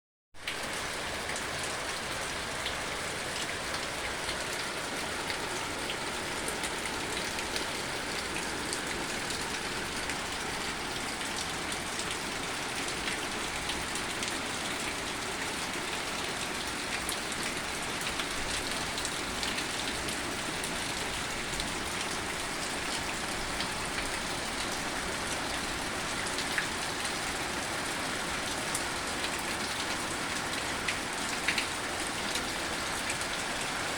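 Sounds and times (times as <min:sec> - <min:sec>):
rain on hard surfaces: 0:00.4 - 0:33.9.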